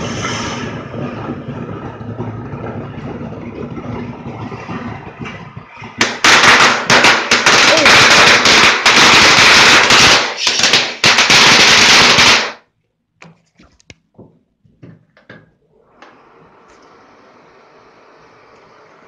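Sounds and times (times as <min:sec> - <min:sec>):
firework fountain crackling hiss: 0:00.0 - 0:12.6, 0:16.0 - 0:19.0.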